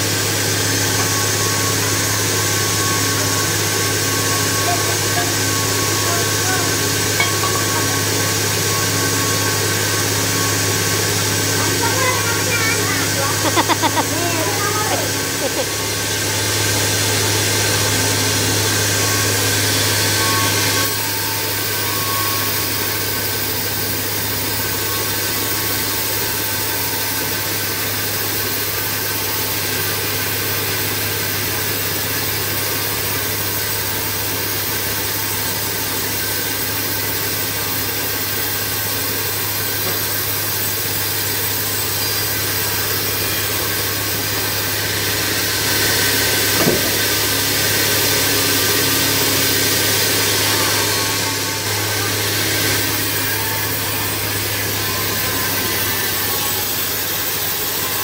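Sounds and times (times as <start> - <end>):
bandsaw cutting timber: 0.0 - 58.0.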